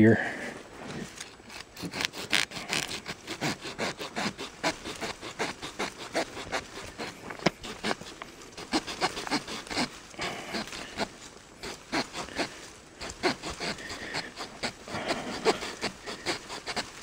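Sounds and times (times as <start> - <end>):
small saw rasping through branch: 1.2 - 17.0.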